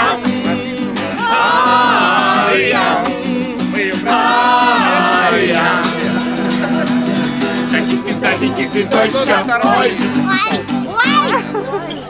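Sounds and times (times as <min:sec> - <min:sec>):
person singing: 0:00.0 - 0:11.4.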